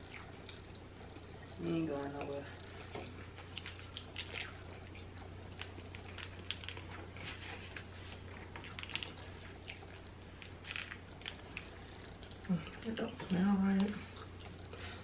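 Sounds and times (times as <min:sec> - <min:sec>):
steady low hum: 0:00.0 - 0:15.0
wet chewing and mouth clicks: 0:00.0 - 0:15.0.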